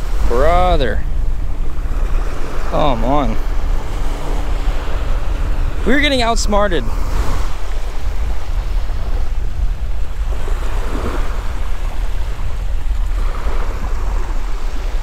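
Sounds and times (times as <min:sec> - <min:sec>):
surf waves washing on beach: 0:00.0 - 0:15.0
wind rumble on microphone: 0:00.0 - 0:15.0.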